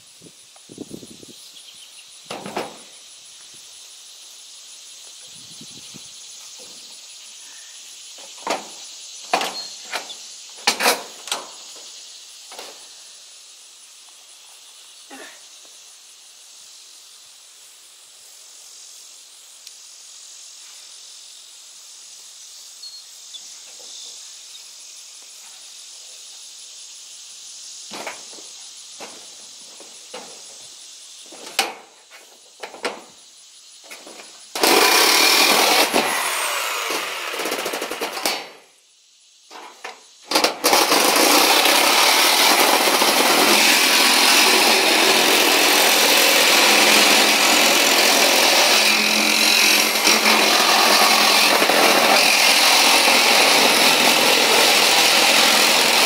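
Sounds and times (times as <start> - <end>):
insects chirping in grass: 0.0 - 54.1.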